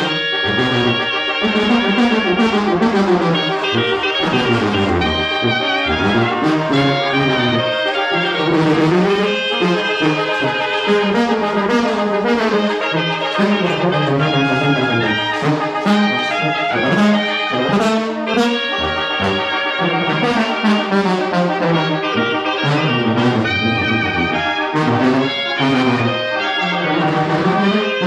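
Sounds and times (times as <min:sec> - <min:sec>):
brass band music: 0:00.0 - 0:28.0.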